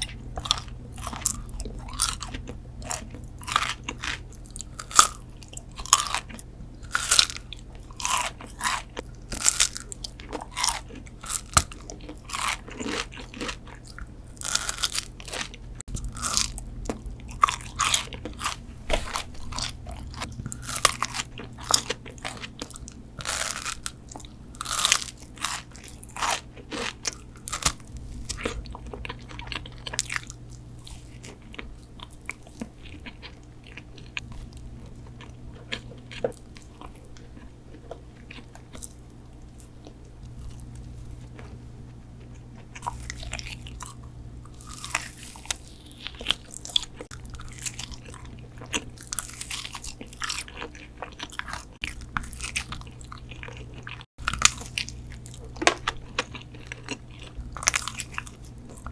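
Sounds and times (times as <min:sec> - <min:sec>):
crunchy bites and chewing: 0:00.0 - 0:41.6, 0:42.2 - 0:58.9.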